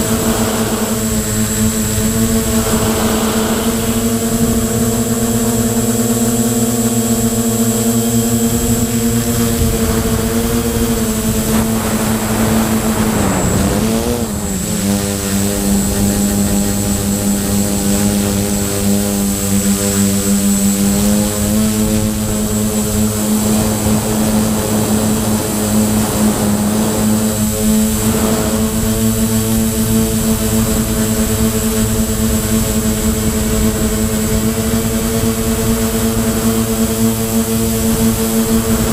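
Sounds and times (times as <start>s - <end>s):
drone motors buzzing whine: 0.0s - 38.9s.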